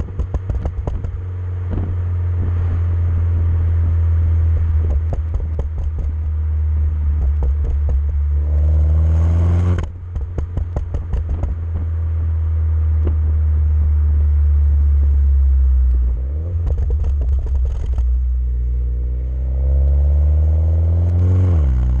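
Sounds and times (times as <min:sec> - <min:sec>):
turbocharged car engine revving: 0:00.0 - 0:12.0, 0:13.0 - 0:22.0
exhaust crackles and pops: 0:00.0 - 0:20.2, 0:21.0 - 0:22.0.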